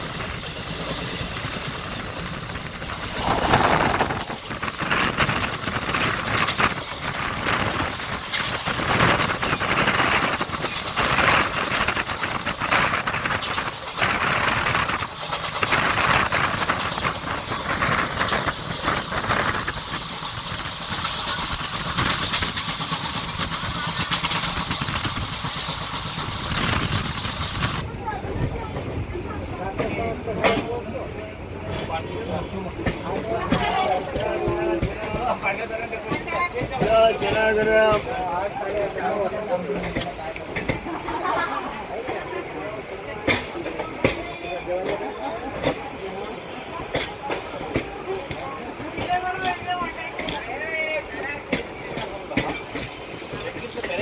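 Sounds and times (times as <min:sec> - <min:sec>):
train clatter: 0:00.0 - 0:54.0
train wheels rumbling on track: 0:00.0 - 0:54.0.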